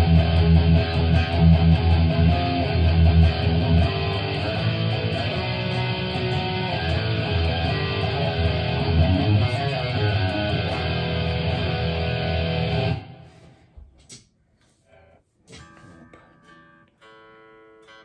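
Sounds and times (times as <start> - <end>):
distorted electric guitar: 0.0 - 13.6, 14.8 - 18.0.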